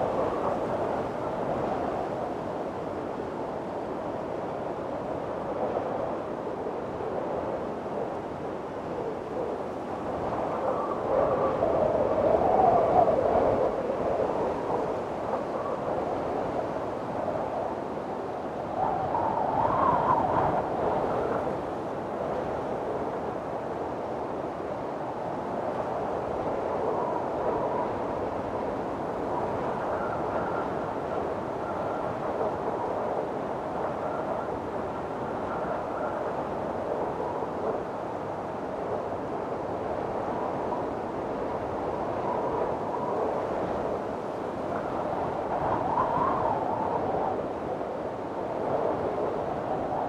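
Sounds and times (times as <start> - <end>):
strong wind blowing: 0.0 - 50.0.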